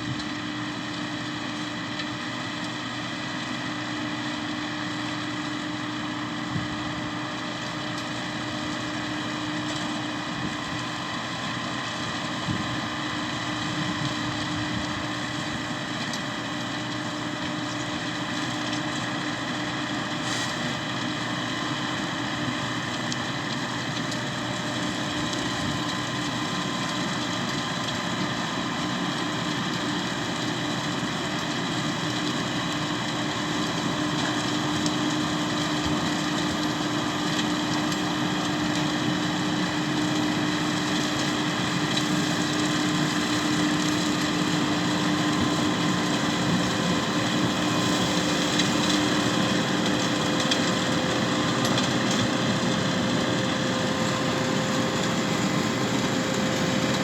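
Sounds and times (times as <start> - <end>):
tractor engine droning: 0.2 - 57.0.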